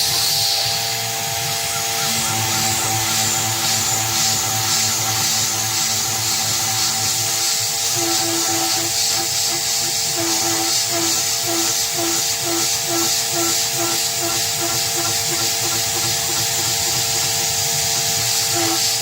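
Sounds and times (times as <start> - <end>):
milling machine motors whining: 1.2 - 19.0
pulsing machine tone: 1.2 - 19.0
coolant mist hissing: 1.8 - 19.0.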